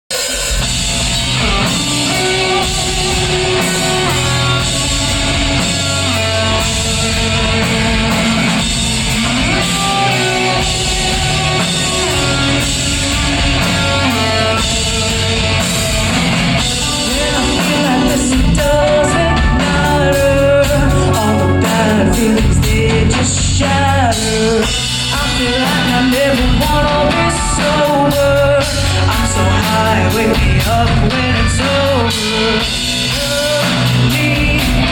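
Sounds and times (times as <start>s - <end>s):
rock band playing live: 0.1s - 34.9s
lead singer singing: 1.3s - 34.9s.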